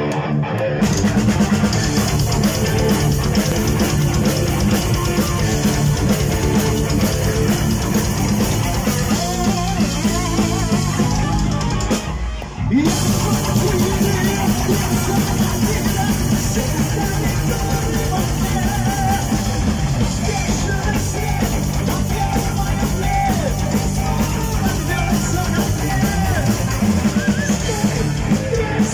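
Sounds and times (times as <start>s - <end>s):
heavy metal band playing: 0.0s - 28.9s.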